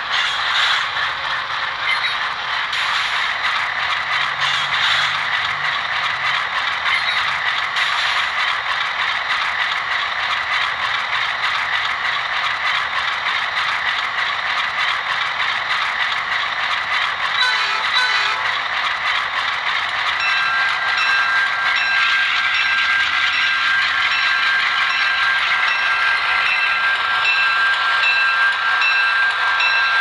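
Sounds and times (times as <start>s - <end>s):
model locomotive mechanical clatter: 0.0s - 30.0s.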